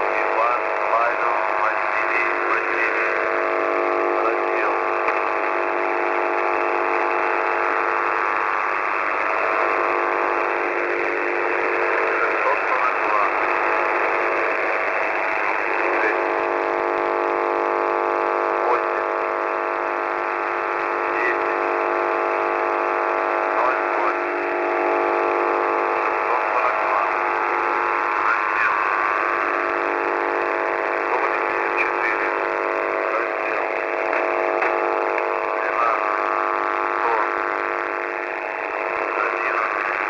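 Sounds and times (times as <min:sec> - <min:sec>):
buzzing radio drone: 0:00.0 - 0:40.0
static hiss: 0:00.0 - 0:40.0.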